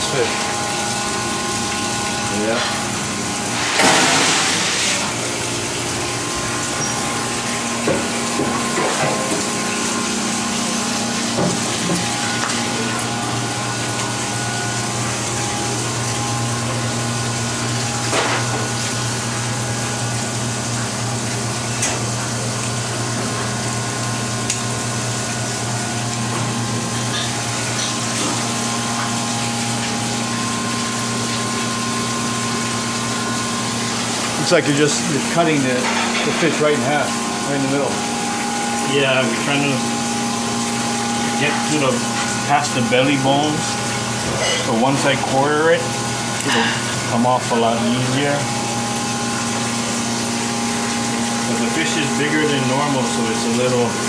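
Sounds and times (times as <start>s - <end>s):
kitchen machinery hum: 0.0s - 54.0s.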